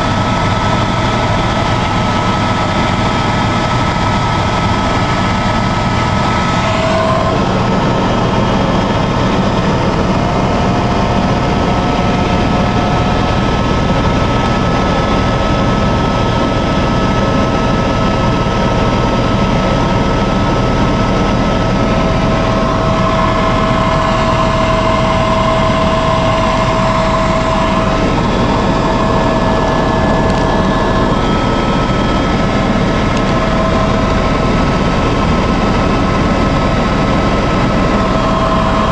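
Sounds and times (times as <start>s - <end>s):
helicopter engine and rotor drone: 0.0s - 38.9s
turbine whine: 0.0s - 38.9s.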